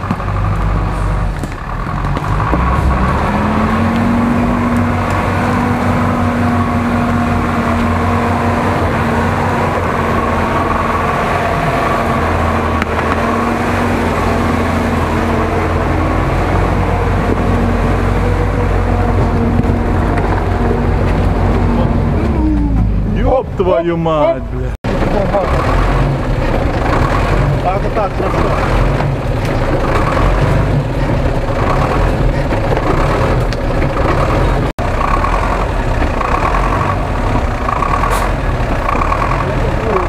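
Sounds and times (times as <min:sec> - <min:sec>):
truck engine under load: 0:00.0 - 0:40.0.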